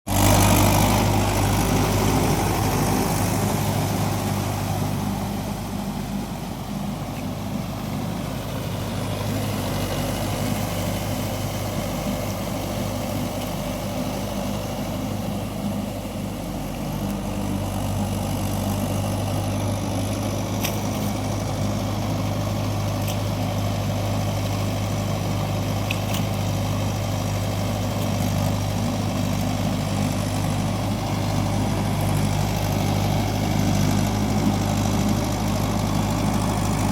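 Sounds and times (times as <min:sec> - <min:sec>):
tractor diesel engine idling: 0:00.1 - 0:36.9.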